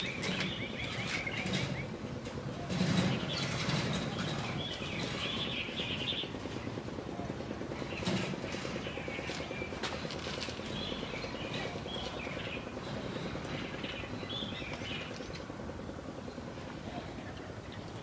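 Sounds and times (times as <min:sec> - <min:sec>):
birds chirping: 0:00.0 - 0:15.5, 0:16.2 - 0:18.0.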